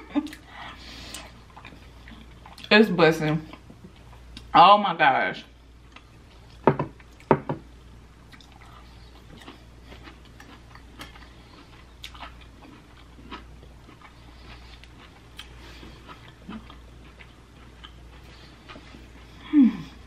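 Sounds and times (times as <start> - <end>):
chewing crunchy food: 0.2 - 4.5, 5.8 - 7.4, 8.2 - 20.0.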